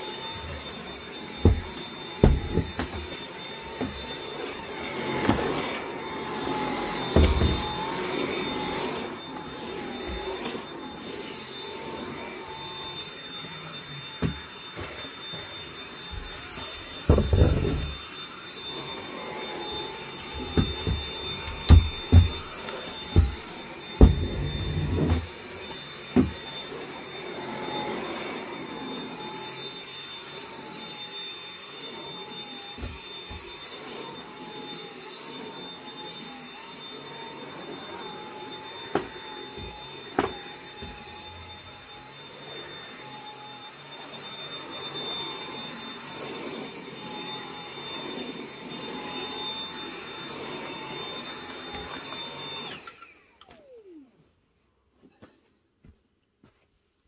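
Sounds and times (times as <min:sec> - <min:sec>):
vacuum cleaner motor whine: 0:00.0 - 0:54.9.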